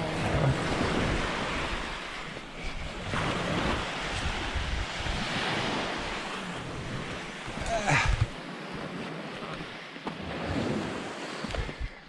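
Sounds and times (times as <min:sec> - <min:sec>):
small waves breaking on sand: 0:00.0 - 0:12.0
wind buffeting microphone: 0:00.0 - 0:12.0.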